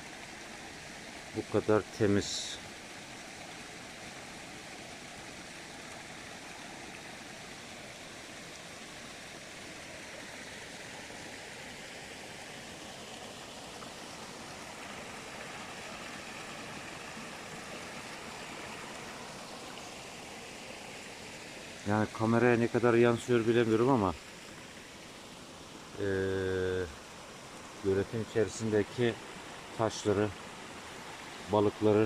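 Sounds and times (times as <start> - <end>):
spring water flowing: 0.0 - 32.0.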